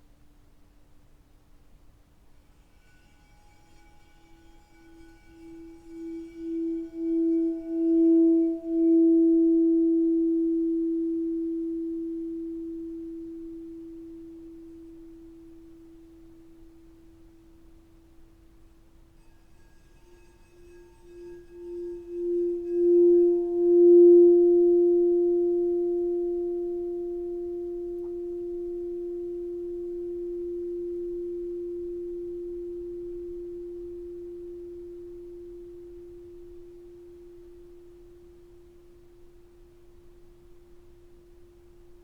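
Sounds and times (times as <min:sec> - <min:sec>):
singing bowl tone: 0:02.6 - 0:42.0.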